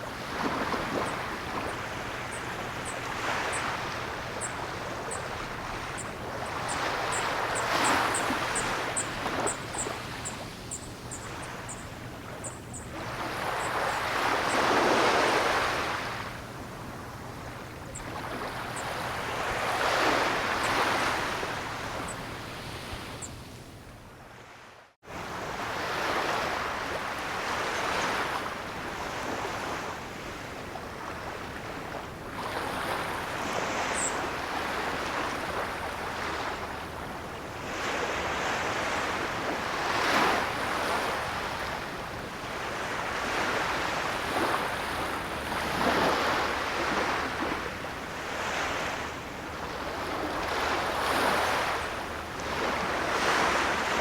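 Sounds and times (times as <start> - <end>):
waves breaking: 0.0 - 23.2, 25.2 - 54.0.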